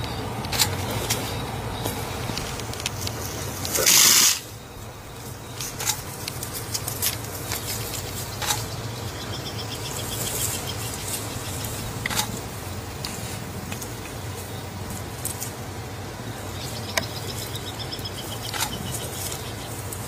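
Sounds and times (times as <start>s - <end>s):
porcupine quills rattling: 0.0s - 15.7s, 16.5s - 20.0s
low steady hum: 0.0s - 20.0s.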